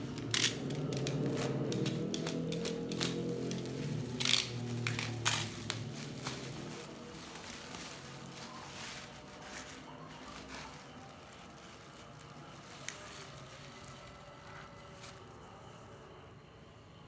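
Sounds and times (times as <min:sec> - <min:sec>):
rustling and handling noise: 0:00.0 - 0:16.4.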